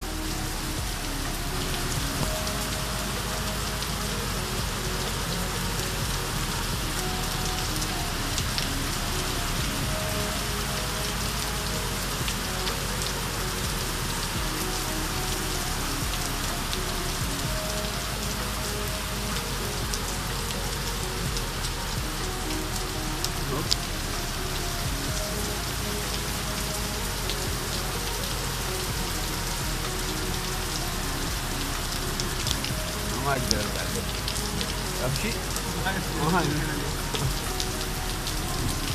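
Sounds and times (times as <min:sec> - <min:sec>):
raindrops ticking on hard surfaces: 0:00.0 - 0:38.9
steady rain falling: 0:00.0 - 0:38.9.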